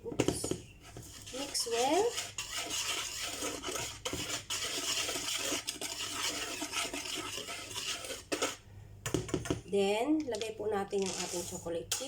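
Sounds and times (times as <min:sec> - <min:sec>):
utensil stirring dry ingredients: 0:00.8 - 0:09.4, 0:10.3 - 0:11.8.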